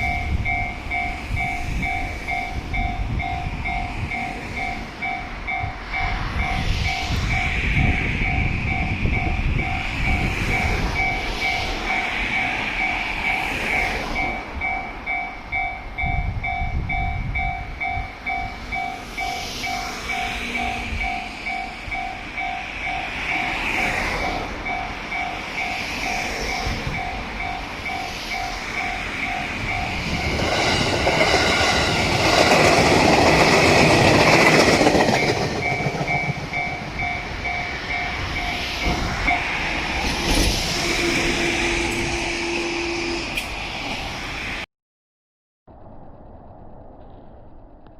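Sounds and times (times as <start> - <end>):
level crossing alarm ringing: 0.0 - 40.1
train passing: 0.0 - 44.7.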